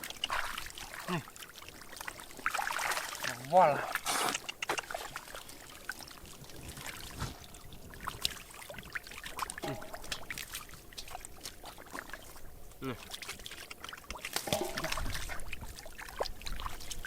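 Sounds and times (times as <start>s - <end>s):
running water hiss: 0.0s - 17.0s
water splashing: 0.0s - 17.0s.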